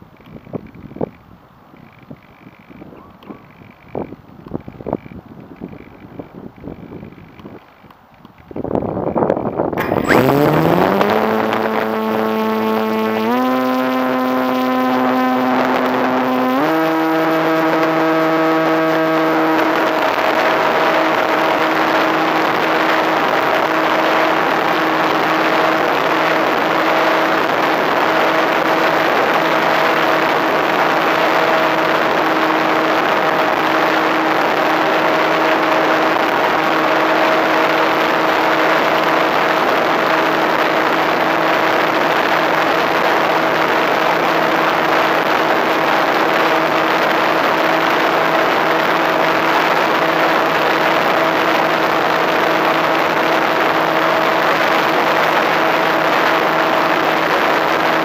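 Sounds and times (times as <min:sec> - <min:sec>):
model plane motor and propeller: 0:00.0 - 0:58.0.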